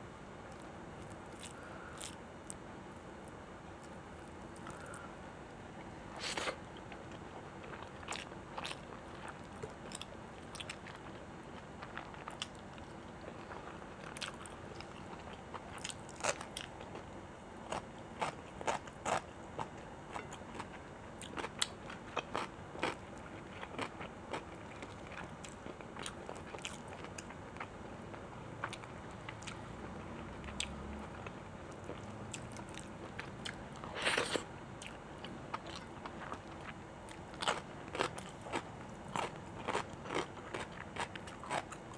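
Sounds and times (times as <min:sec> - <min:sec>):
person chewing food: 0:00.5 - 0:02.2, 0:06.2 - 0:17.1, 0:17.7 - 0:27.8, 0:28.6 - 0:29.6, 0:30.2 - 0:41.9.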